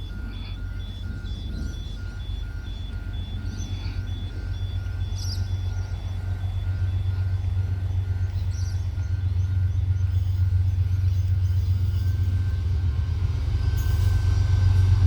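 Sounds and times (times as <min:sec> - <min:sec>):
electronic warning beeps: 0:00.0 - 0:12.3
diesel locomotive rumbling: 0:00.0 - 0:15.0.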